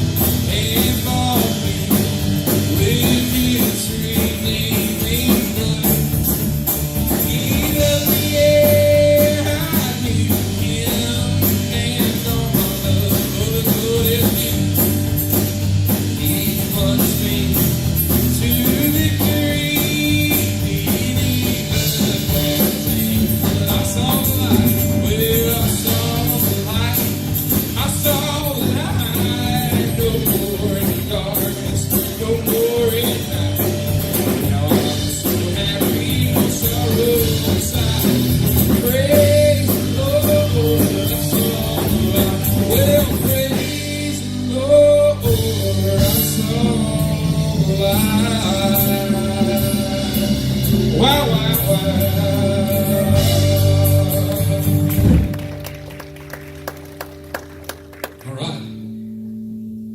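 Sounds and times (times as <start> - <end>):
person singing: 0.0 - 6.2, 7.1 - 14.7, 15.9 - 55.4
drum kit: 0.0 - 58.9
guitars: 0.0 - 59.9.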